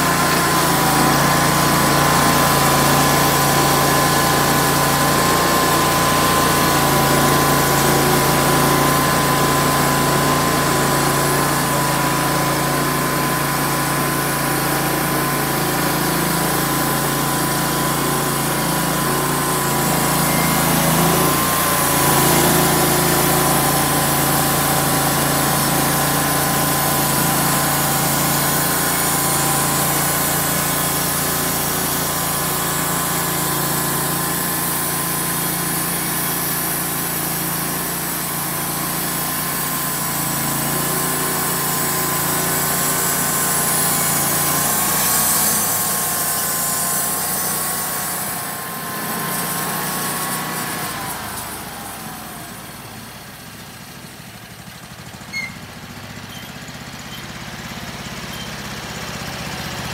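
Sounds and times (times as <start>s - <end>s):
engine running under load: 0.0s - 59.9s
saw blade whining through wood: 0.0s - 59.9s.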